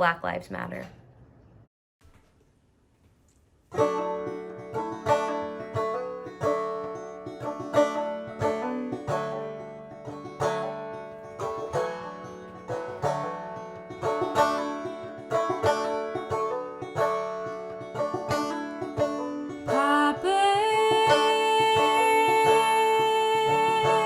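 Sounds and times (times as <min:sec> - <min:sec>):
plucked string instrument: 0:03.7 - 0:24.0.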